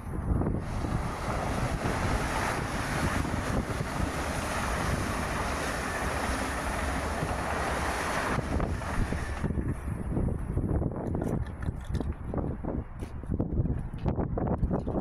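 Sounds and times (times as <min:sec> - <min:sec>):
train wheels rushing on rails: 0:00.0 - 0:12.0
wind buffeting microphone: 0:00.0 - 0:15.0.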